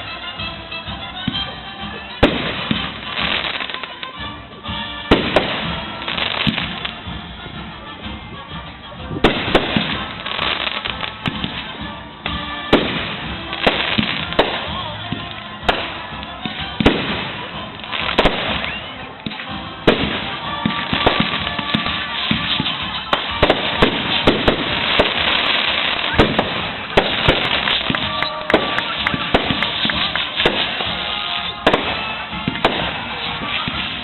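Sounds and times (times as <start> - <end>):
fireworks bursting with bangs: 0.0 - 34.0
fireworks crackling: 0.0 - 34.0.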